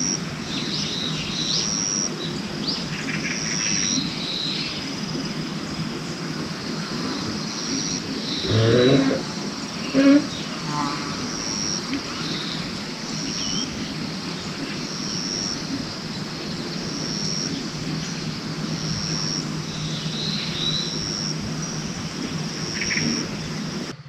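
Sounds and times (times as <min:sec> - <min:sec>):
faint chirps: 0:00.0 - 0:24.0
low steady hum: 0:00.0 - 0:24.0
outdoor noise bed: 0:00.0 - 0:24.0.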